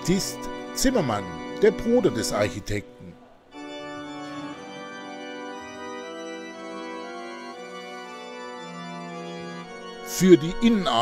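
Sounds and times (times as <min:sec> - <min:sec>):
organ playing held chords: 0:00.0 - 0:11.0.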